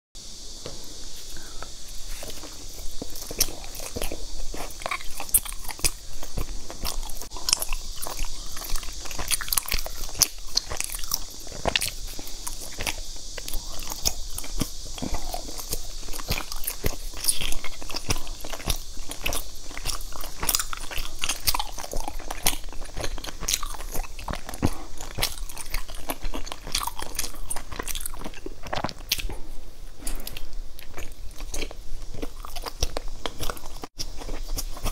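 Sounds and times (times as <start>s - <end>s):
steady high hiss: 0.2s - 34.9s
chewing sticky food: 0.6s - 34.9s.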